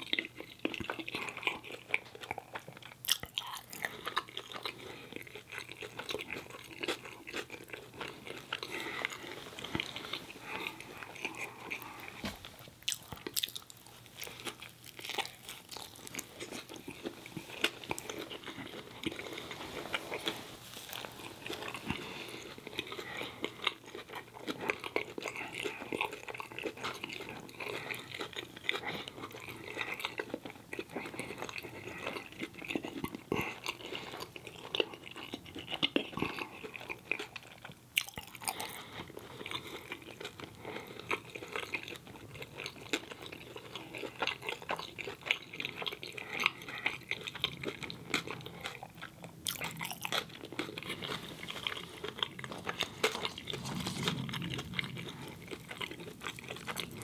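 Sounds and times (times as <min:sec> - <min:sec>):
man chewing food: 0:00.0 - 0:57.0.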